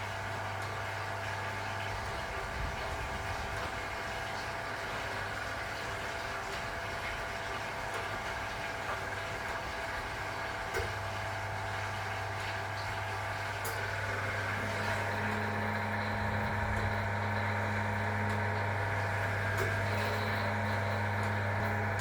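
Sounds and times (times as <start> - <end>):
washing machine humming and whining: 0.0 - 22.0.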